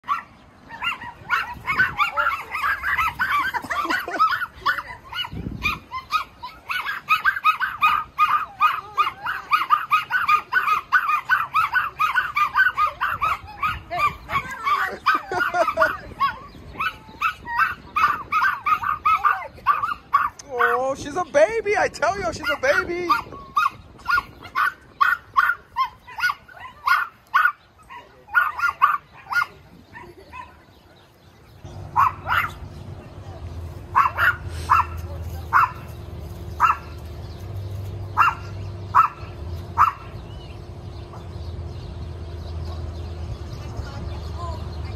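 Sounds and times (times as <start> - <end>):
small dogs yapping: 0.0 - 21.3, 22.3 - 41.9.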